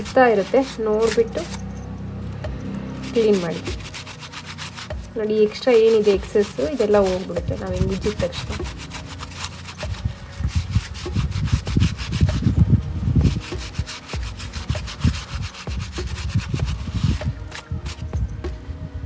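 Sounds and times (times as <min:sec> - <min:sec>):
cloth scrubbing roasted potato: 0:00.0 - 0:01.6, 0:02.9 - 0:18.6.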